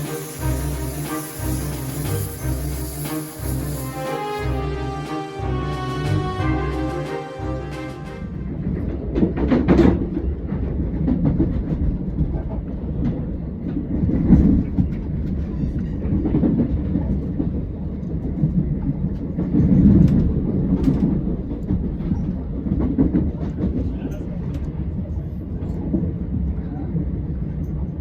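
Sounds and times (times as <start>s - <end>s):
steam train rumbling: 0.0s - 28.0s.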